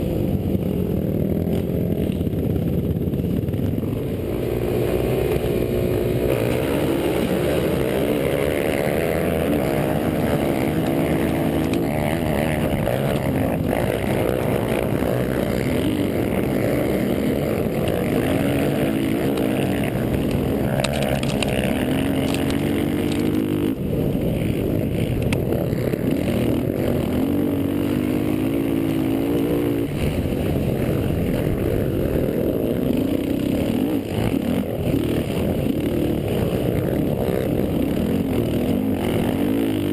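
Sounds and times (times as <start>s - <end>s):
quad engines revving: 0.0s - 39.9s.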